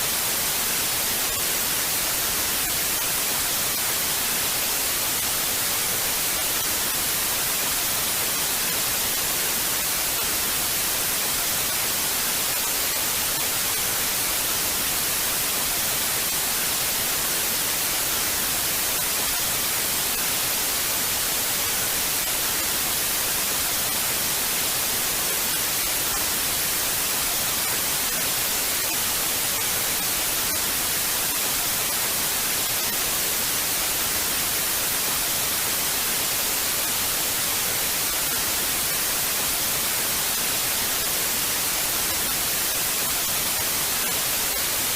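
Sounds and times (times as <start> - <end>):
television static hiss: 0.0 - 44.9.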